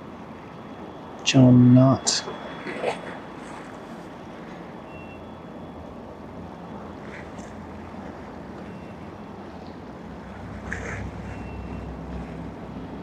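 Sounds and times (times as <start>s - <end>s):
boat traffic rumble: 0.0s - 13.0s
water: 0.0s - 13.0s
wind: 0.0s - 13.0s.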